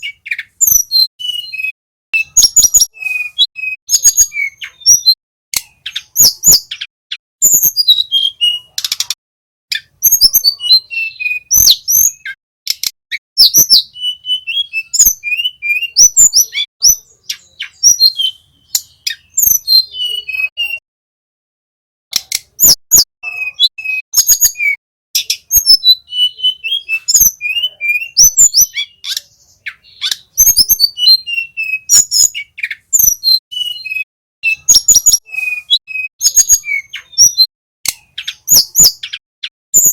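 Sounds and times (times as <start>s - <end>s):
bird chirping and whistling: 0.0s - 20.8s, 22.1s - 39.9s.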